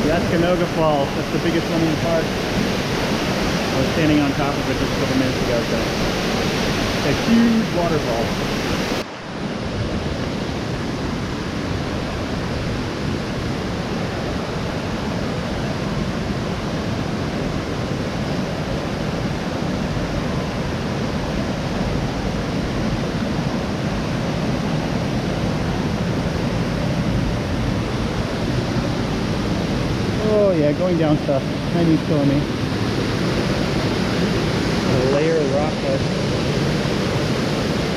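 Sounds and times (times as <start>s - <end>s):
waterfall rushing: 0.0s - 9.6s, 10.2s - 37.9s.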